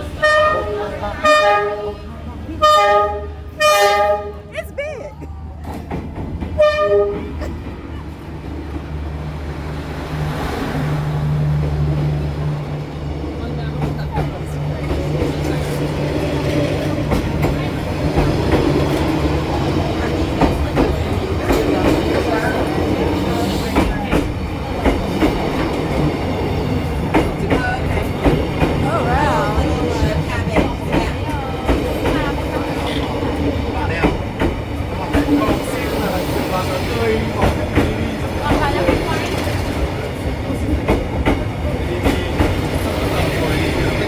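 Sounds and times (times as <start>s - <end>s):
diesel train engine rumble: 0.0s - 44.0s
wheels rushing on rails: 5.4s - 44.0s.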